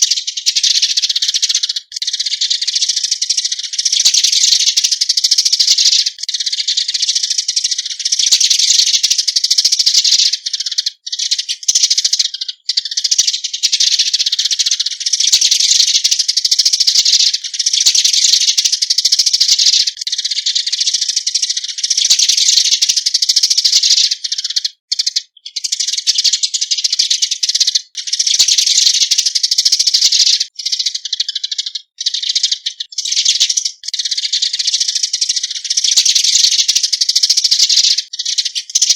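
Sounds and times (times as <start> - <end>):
sparrows chirping and chattering: 0.0 - 38.9.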